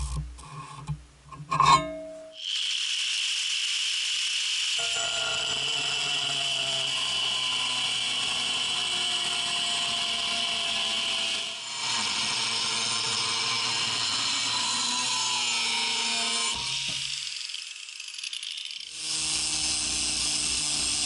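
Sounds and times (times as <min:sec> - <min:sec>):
angle grinder grinding steel: 0:00.0 - 0:21.0.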